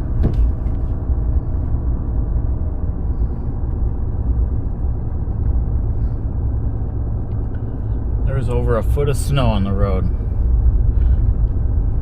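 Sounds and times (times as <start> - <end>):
truck rumbling through snow: 0.0 - 12.0.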